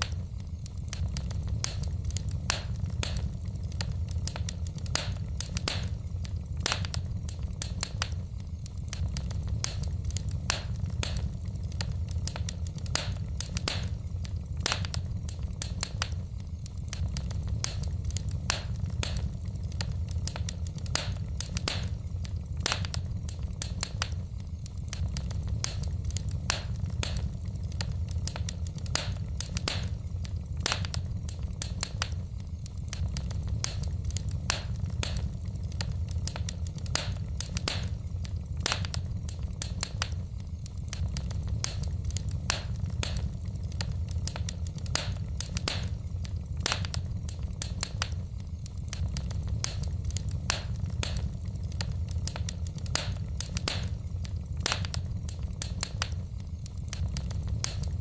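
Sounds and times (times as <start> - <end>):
logs crackling and popping: 0.0 - 58.0
low rumble of flames: 0.0 - 58.0.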